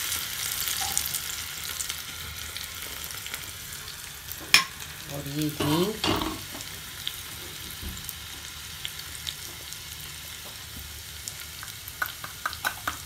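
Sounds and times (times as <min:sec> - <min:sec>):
garlic sizzling in hot ghee: 0:00.0 - 0:13.0.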